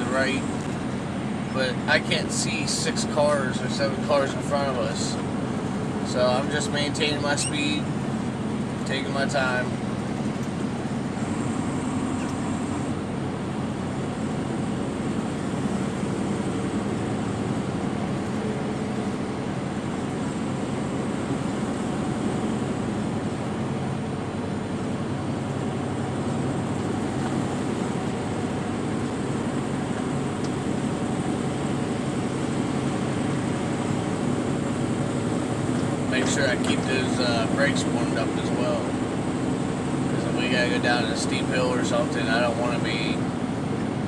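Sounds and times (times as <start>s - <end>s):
truck diesel engine drone: 0.0s - 44.0s.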